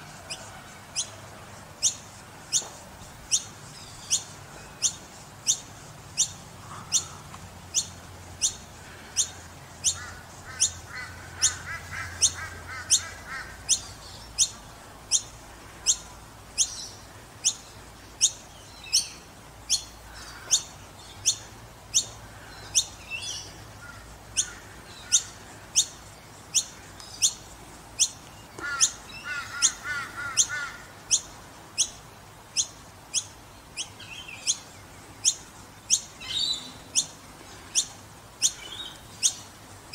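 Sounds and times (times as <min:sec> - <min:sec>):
fledgling birds calling: 0:00.0 - 0:39.9.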